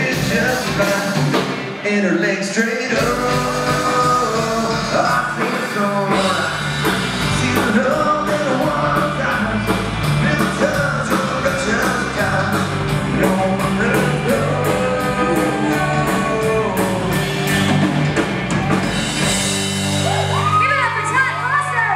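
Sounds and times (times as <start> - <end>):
drum kit with cymbals: 0.0 - 1.8, 3.0 - 21.3
bass guitar: 0.0 - 1.9, 2.9 - 21.9
electric guitars: 2.9 - 21.9.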